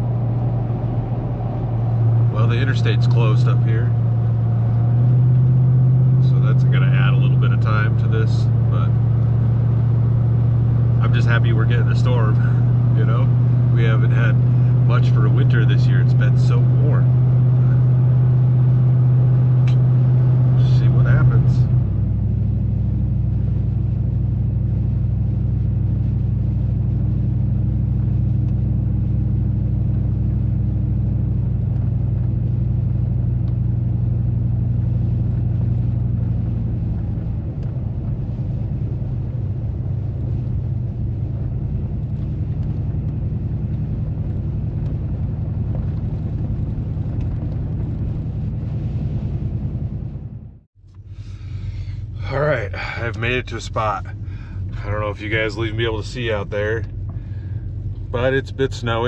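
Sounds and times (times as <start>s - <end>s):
engine hum inside cab: 0.0s - 59.0s
road rumble: 0.0s - 59.0s.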